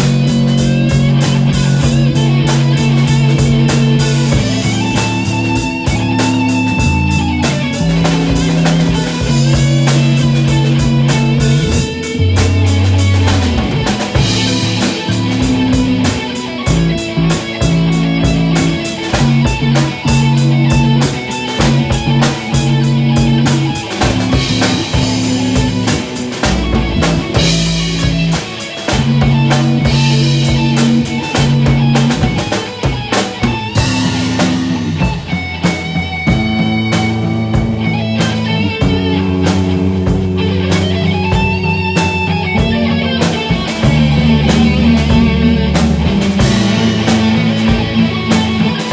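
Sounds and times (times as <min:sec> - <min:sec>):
drum kit with cymbals: 0:00.0 - 0:48.9
electric guitars: 0:00.0 - 0:48.9
sustained bass notes: 0:00.0 - 0:48.9.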